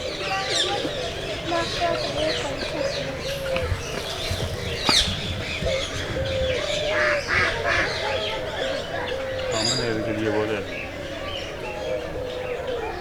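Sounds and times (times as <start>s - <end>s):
birds chirping and tweeting: 0.0s - 13.0s.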